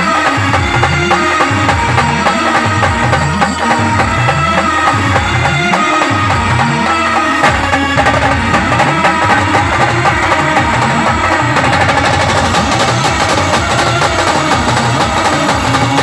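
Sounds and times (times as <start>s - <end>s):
folk melody instruments: 0.0s - 16.0s
steady drumming: 0.0s - 16.0s.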